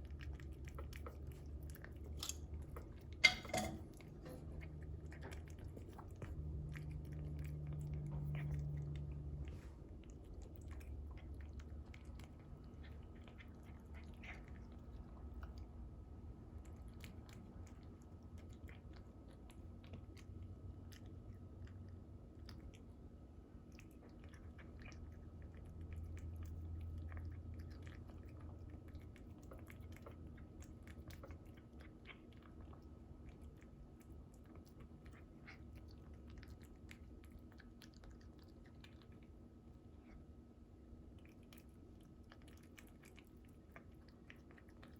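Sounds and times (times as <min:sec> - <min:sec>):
cat chewing food: 0:00.0 - 0:44.9.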